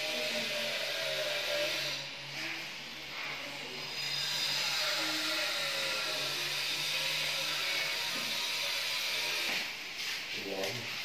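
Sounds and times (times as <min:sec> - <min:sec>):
small electric motor whirring: 0:00.0 - 0:09.8.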